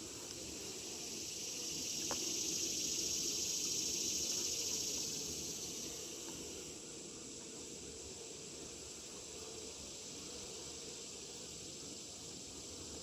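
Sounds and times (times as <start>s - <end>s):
insects high hissing drone: 0.0s - 13.0s
low steady insect buzz: 0.0s - 13.0s.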